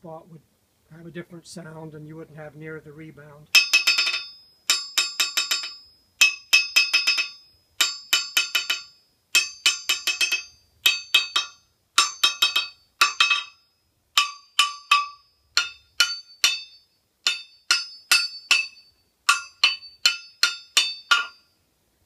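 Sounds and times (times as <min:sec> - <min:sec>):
hammer bouncing on steel anvil: 0:03.6 - 0:21.5
metallic anvil ring: 0:03.6 - 0:21.6.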